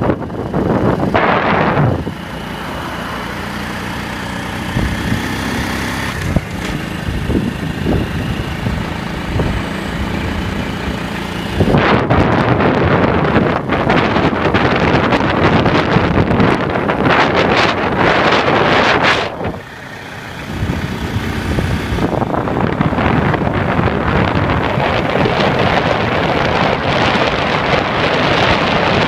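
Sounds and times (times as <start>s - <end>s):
motor vehicle running: 0.0s - 29.0s
wind buffeting microphone: 0.0s - 29.0s.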